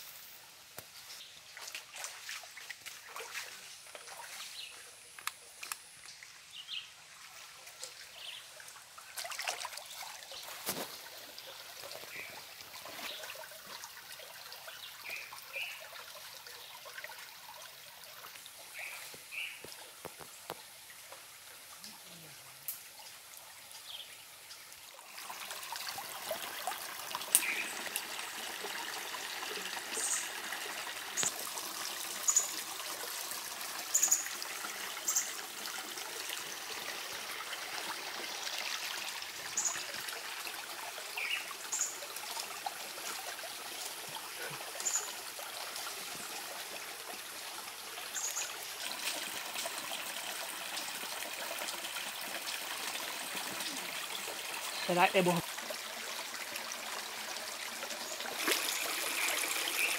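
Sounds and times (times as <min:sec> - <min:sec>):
stream trickling: 0:00.4 - 0:59.9.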